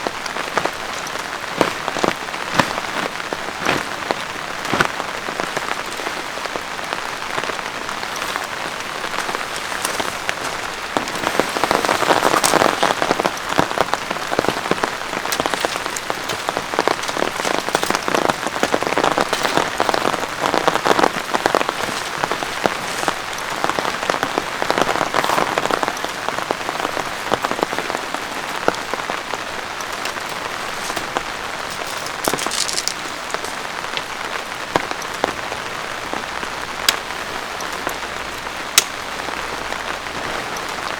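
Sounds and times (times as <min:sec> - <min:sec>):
close raindrop hits: 0:00.0 - 0:40.9
steady rain falling: 0:00.0 - 0:40.9.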